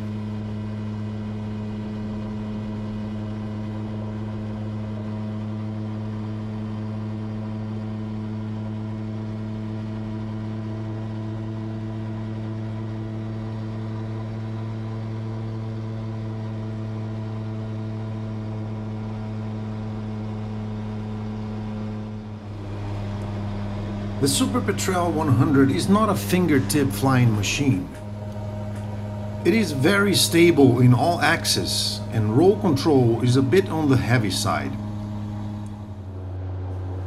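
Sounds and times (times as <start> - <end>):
propeller aircraft engine drone: 0.0 - 37.0.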